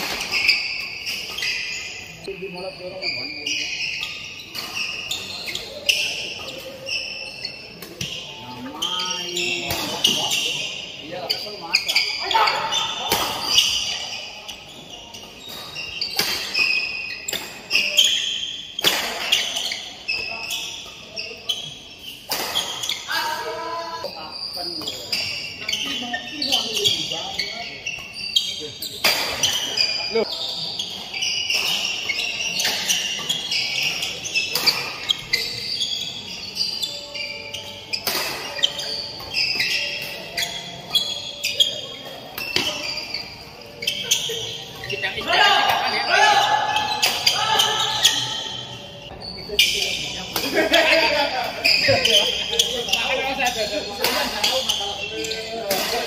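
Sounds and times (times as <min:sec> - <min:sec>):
shoes squeaking on court floor: 0:00.0 - 0:56.0.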